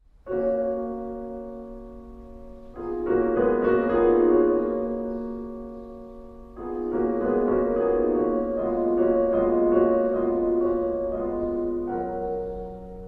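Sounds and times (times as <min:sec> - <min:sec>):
slow piano music: 0:00.1 - 0:13.0.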